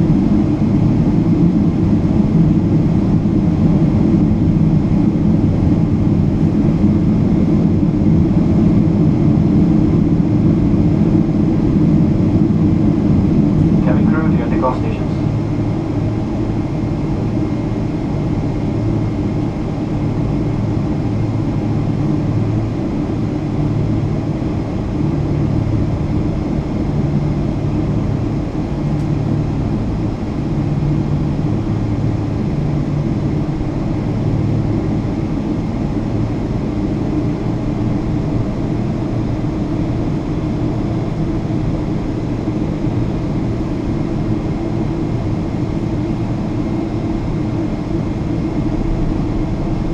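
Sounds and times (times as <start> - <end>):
airliner engines rumbling: 0.0 - 49.9.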